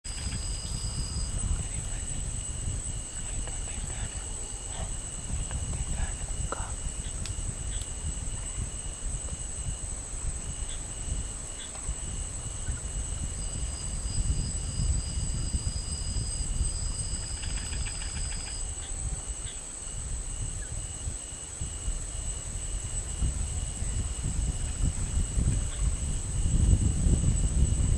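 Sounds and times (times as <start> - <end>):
cricket chirping: 0.0 - 27.9
insects trilling: 0.0 - 27.9
second insect trill: 0.0 - 27.9.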